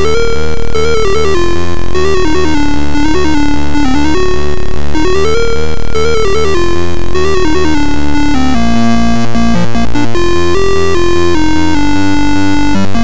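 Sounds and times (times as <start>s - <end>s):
electronic music: 0.0s - 13.0s.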